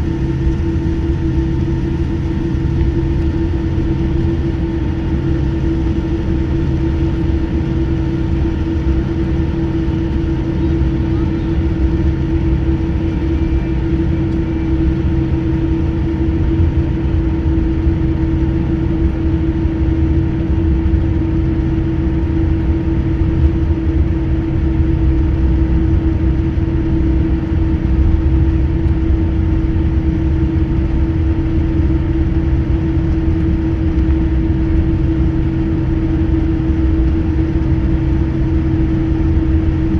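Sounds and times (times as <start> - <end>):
airliner engines droning: 0.0 - 39.9
low rumble: 0.0 - 39.9.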